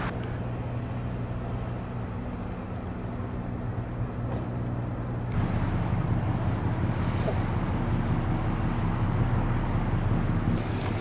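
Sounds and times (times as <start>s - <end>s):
low mechanical drone: 0.0s - 11.0s
outdoor background noise: 0.0s - 11.0s.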